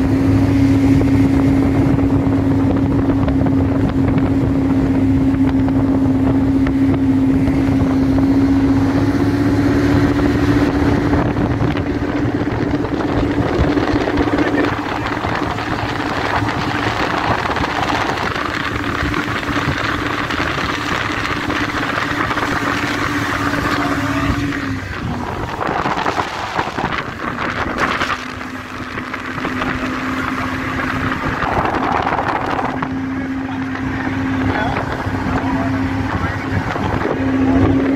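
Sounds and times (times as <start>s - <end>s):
outboard motor running: 0.0s - 37.9s
rushing water: 0.0s - 37.9s
rushing wind: 0.0s - 37.9s.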